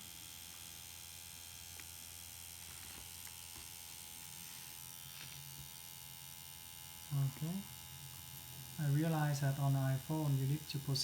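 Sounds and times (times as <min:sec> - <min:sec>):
faint electric hum: 0:00.0 - 0:11.0.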